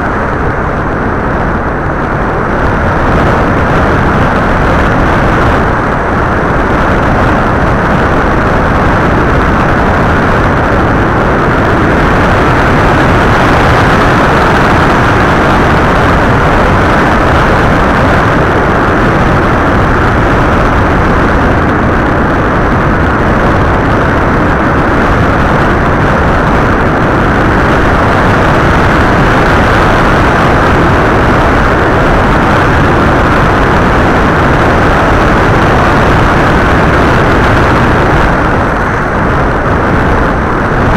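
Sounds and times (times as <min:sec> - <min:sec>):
wind and propeller noise: 0:00.0 - 0:40.9.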